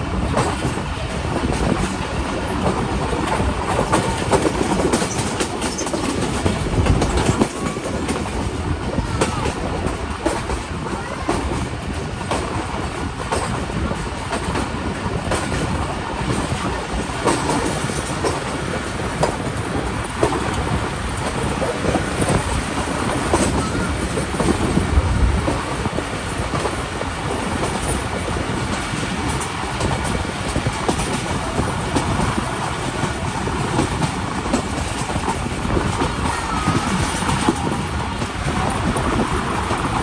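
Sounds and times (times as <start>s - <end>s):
train rumble: 0.0s - 40.0s
wheels clicking over rail joints: 0.0s - 40.0s.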